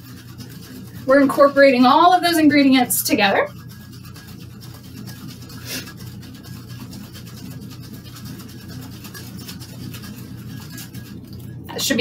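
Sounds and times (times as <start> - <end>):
cocktail shaker sloshing: 0.0 - 12.0.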